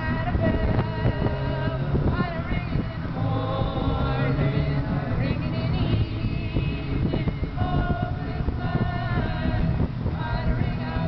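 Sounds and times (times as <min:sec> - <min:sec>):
car driving on highway rumble: 0:00.0 - 0:11.0
music with singing: 0:00.0 - 0:11.0.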